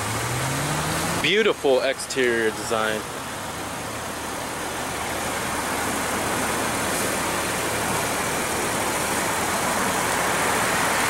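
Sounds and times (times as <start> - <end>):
car engine idling: 0.0 - 11.0
steady outdoor hiss: 0.0 - 11.0.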